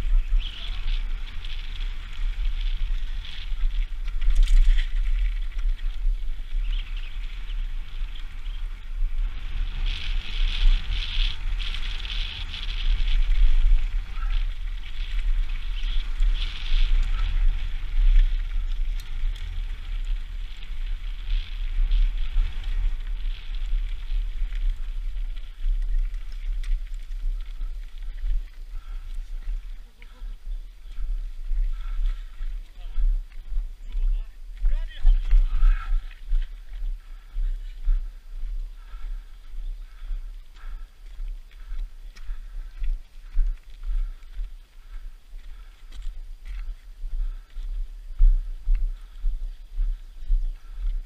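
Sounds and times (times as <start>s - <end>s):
bike tyres crunching over stones: 0.0s - 51.0s
wind buffeting microphone: 0.0s - 51.0s.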